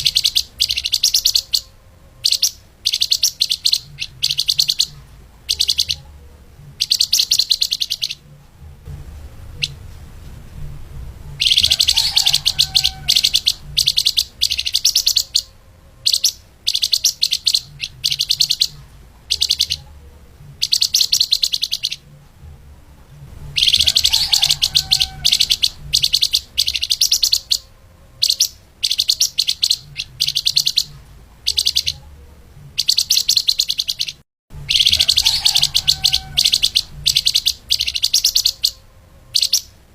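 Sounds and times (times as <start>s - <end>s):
songbird chattering song: 0.0s - 8.6s, 9.5s - 9.8s, 11.3s - 22.4s, 23.2s - 39.9s.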